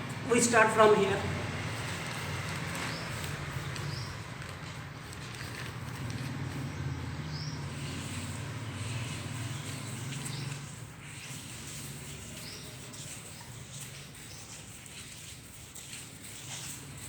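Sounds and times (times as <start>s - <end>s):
grout scraping on stone floor: 0.1s - 17.0s.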